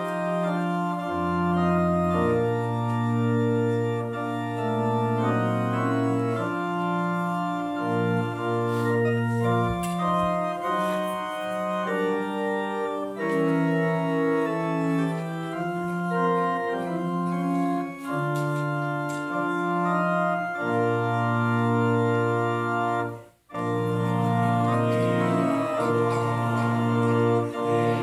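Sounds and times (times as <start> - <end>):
organ playing slow chords: 0.0 - 28.0.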